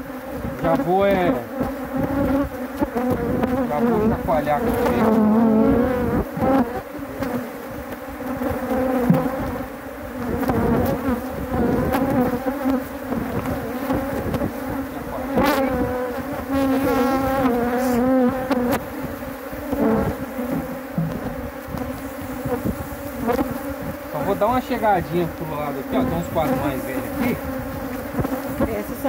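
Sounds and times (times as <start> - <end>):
swarm of honeybees buzzing: 0.0 - 29.0
wooden hive boxes knocking: 0.3 - 29.0.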